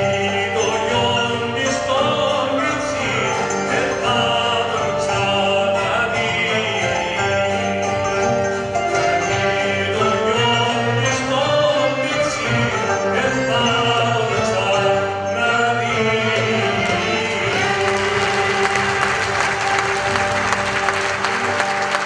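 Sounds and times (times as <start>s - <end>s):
man singing into a microphone: 0.0s - 8.3s, 9.0s - 19.6s
violins: 0.0s - 22.0s.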